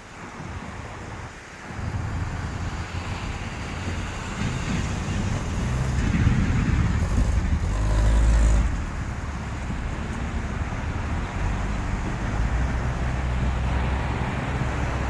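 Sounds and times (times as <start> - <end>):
cars driving along street: 0.0 - 15.0
vehicle passing close by: 1.6 - 15.0.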